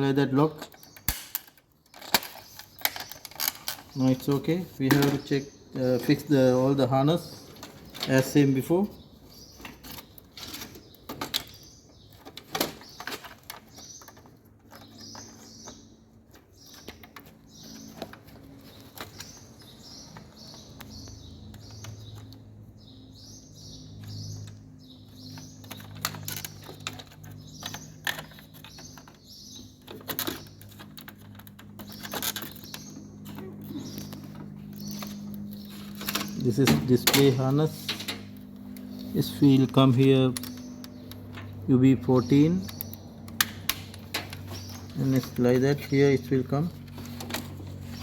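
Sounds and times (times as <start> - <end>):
small bird chirping: 0.4 - 48.0.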